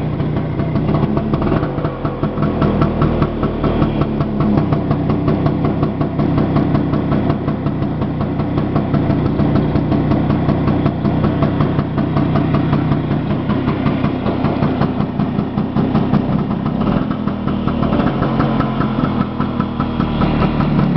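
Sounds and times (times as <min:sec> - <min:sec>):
scooter engine idling: 0:00.0 - 0:20.9.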